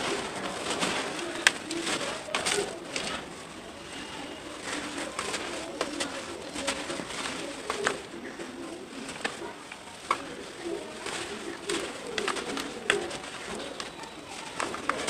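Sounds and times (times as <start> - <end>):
bird cooing: 0.0 - 15.0
dry dirt clumps crushed by hand: 0.0 - 15.0.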